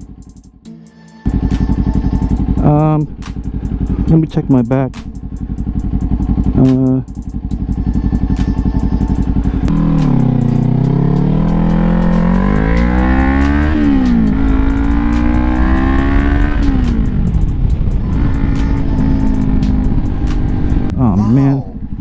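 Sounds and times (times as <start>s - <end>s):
motorcycle engine accelerating: 1.2s - 22.0s.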